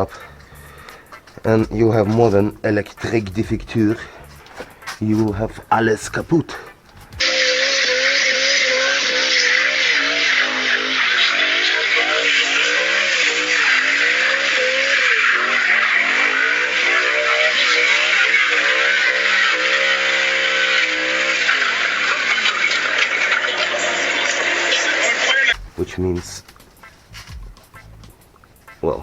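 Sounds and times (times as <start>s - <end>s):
car engine revving: 0.0s - 28.8s
tyre squeal: 0.0s - 28.8s.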